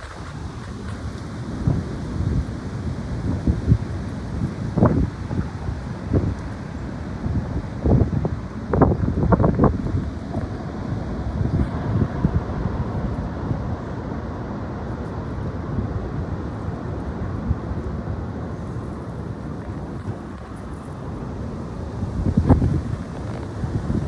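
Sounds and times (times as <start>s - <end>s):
gusty wind on microphone: 0.0s - 24.0s.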